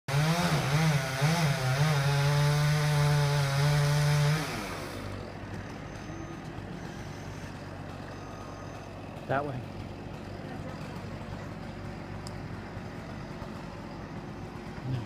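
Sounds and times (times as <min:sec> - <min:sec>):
chainsaw running: 0:00.1 - 0:15.0.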